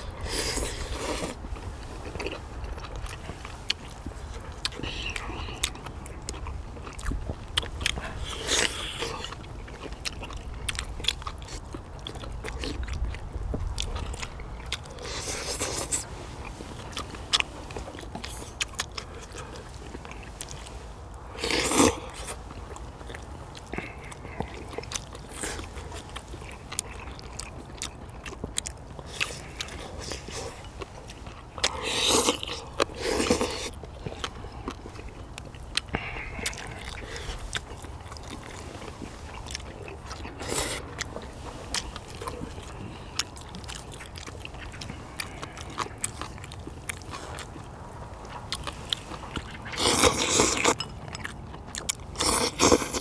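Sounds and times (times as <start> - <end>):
close-up chewing and biting: 0.0 - 53.0.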